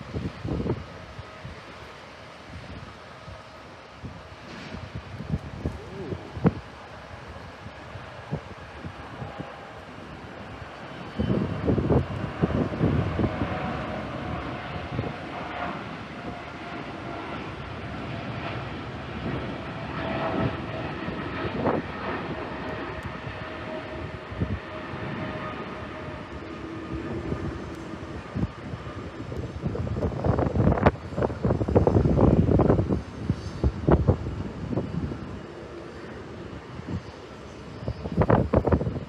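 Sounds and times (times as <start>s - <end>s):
distant engine whine: 0.0s - 39.0s
wind buffeting microphone: 0.0s - 39.0s.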